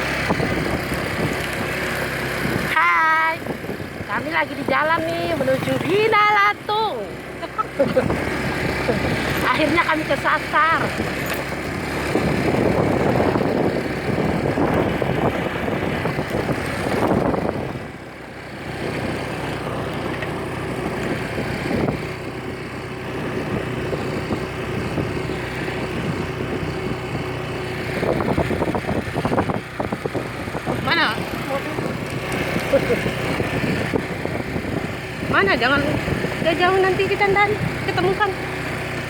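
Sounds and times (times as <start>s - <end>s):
road and wind noise: 0.0s - 39.0s
vehicle engine running: 0.0s - 39.0s.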